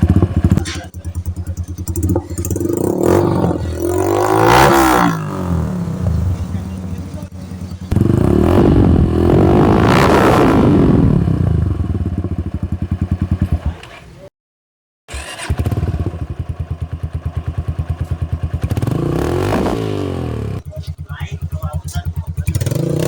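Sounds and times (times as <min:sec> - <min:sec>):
motorcycle engine revving and idling: 0:00.0 - 0:14.3, 0:15.1 - 0:23.0.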